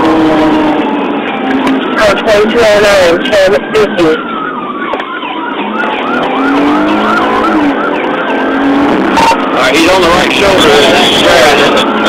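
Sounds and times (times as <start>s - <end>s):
police siren wailing and yelping: 0.0s - 12.0s
road and tyre noise: 0.0s - 12.0s.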